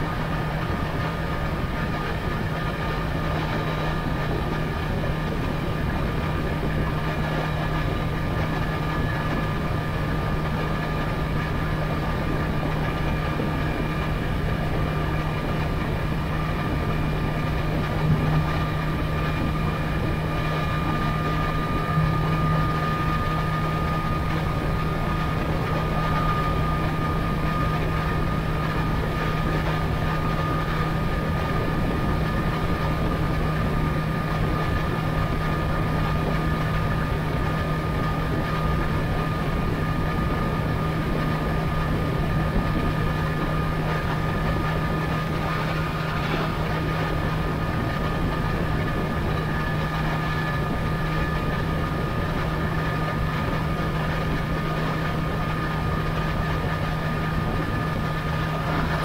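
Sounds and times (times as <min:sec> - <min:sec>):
thin steady whine: 0:00.0 - 0:59.0
wind and road noise: 0:00.0 - 0:59.0.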